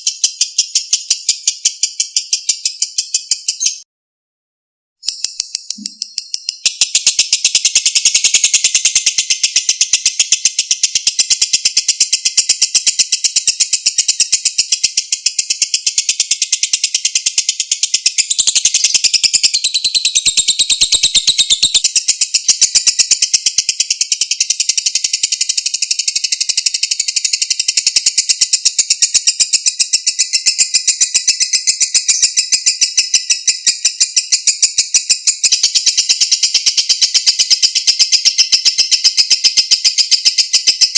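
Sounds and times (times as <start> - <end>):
bird chattering trills: 0.0 - 3.8, 5.1 - 40.9.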